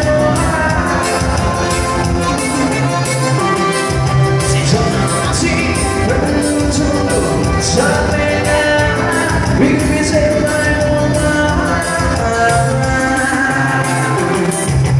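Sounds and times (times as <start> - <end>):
live dance band music: 0.0 - 14.9.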